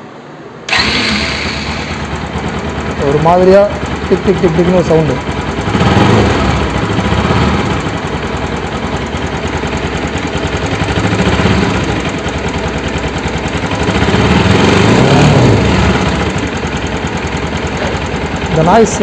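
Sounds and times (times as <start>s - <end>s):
motorcycle engine running: 0.7s - 19.0s
rapid metallic engine ticking: 0.7s - 19.0s.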